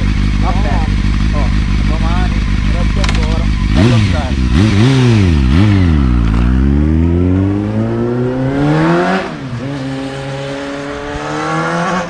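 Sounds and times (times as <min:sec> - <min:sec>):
motorcycle accelerating: 0:00.0 - 0:12.0.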